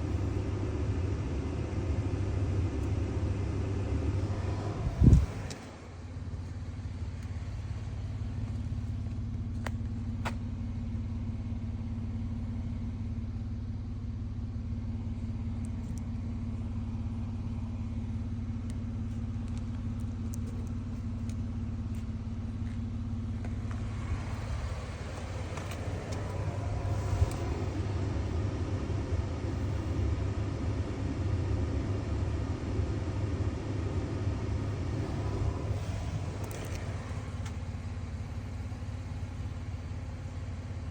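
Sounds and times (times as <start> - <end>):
steady hum: 0.0 - 9.5, 14.8 - 40.9
vehicle engine running: 0.0 - 40.9.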